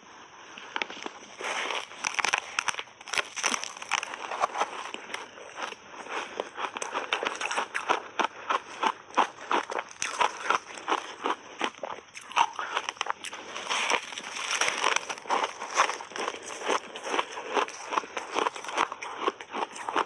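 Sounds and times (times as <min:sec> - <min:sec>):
crunchy ice chewing: 0:00.5 - 0:20.0.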